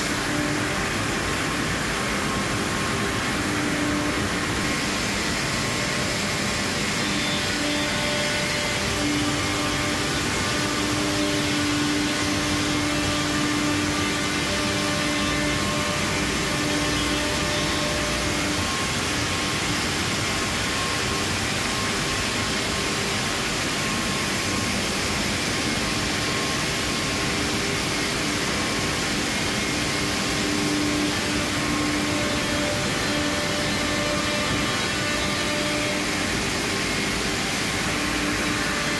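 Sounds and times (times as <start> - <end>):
panel saw and dust extraction hum: 0.0 - 38.9.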